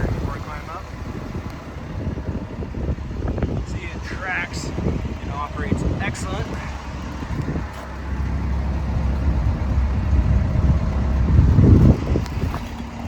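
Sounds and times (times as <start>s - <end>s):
excavator diesel engine rumble: 0.0s - 13.0s.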